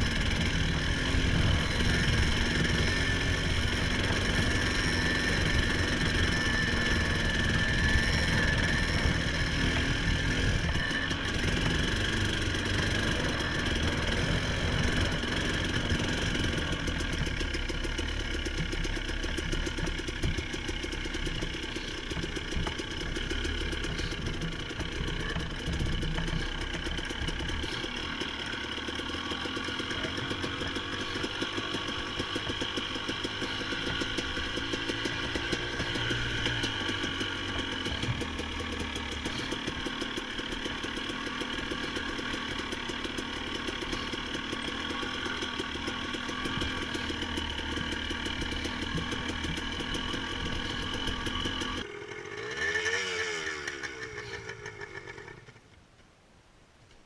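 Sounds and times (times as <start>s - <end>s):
small vehicle engine running: 0.0s - 55.8s.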